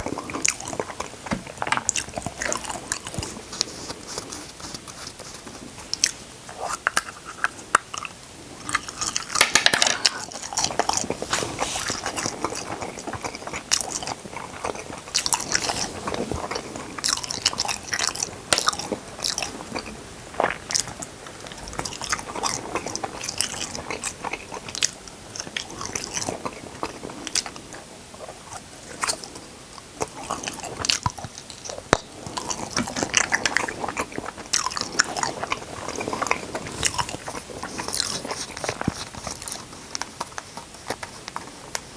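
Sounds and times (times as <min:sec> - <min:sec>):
person crunching and chewing food: 0:00.0 - 0:09.4, 0:10.0 - 0:41.9.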